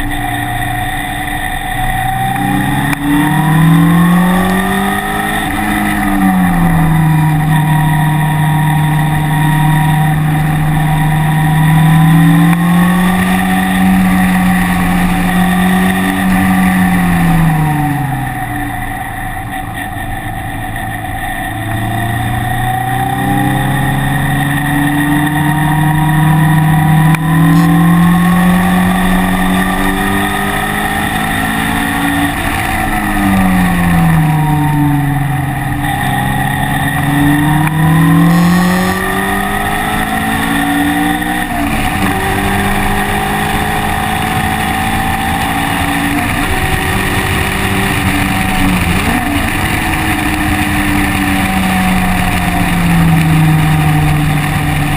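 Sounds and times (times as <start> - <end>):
car engine revving: 0.0 - 54.9
wind and tyre noise: 0.0 - 54.9.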